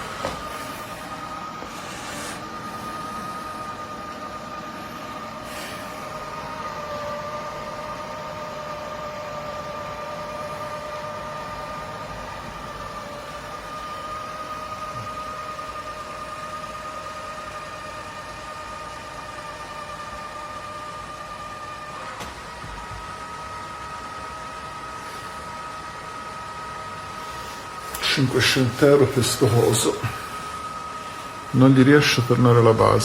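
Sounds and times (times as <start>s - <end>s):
robot vacuum motor whine: 0.0s - 33.0s
suction fan hum: 0.0s - 33.0s.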